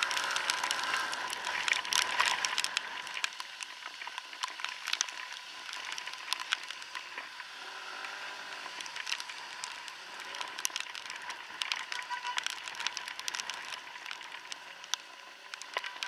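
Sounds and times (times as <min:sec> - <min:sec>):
rain and wind hissing: 0:00.0 - 0:16.0
raindrops ticking on helmet: 0:00.0 - 0:16.0.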